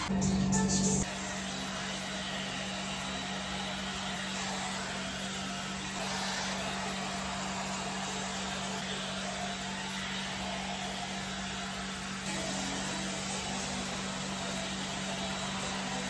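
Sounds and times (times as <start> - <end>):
hot air brush fan whirring: 0.0 - 16.0.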